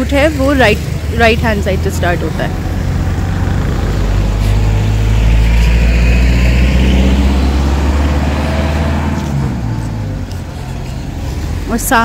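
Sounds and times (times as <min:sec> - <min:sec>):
vehicle driving past: 0:00.4 - 0:11.8.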